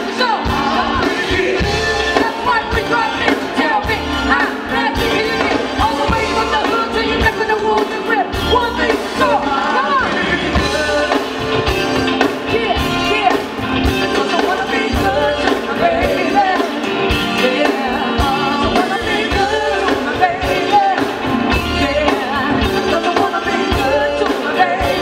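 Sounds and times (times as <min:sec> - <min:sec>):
electric guitars: 0:00.0 - 0:25.0
keyboards: 0:00.0 - 0:25.0
person singing: 0:00.0 - 0:25.0.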